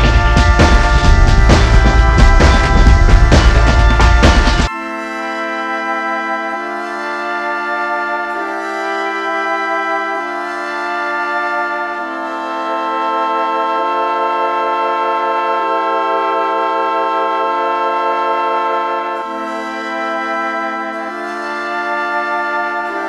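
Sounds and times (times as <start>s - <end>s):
slow organ-like chords: 0.0s - 23.0s.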